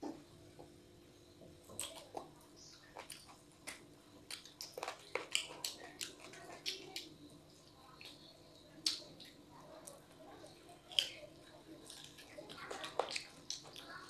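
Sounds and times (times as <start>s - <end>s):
child chewing and lip-smacking: 1.6s - 14.0s.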